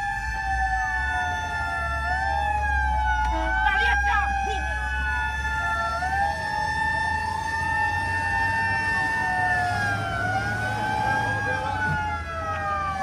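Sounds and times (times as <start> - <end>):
emergency sirens wailing: 0.0 - 13.0.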